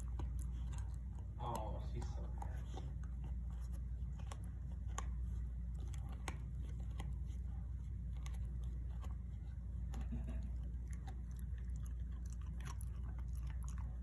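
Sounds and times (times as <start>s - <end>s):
dog gnawing chew stick: 0.0s - 14.0s
low background hum: 0.0s - 14.0s.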